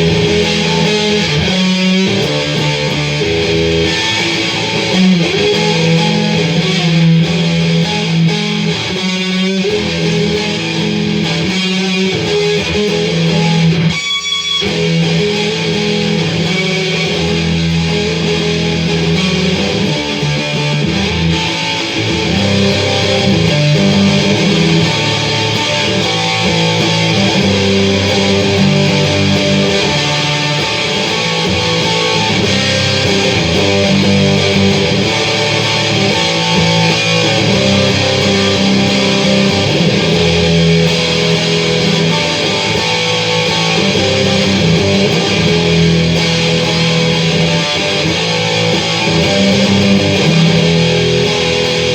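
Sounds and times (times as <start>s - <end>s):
electric guitar chords: 0.0s - 51.9s.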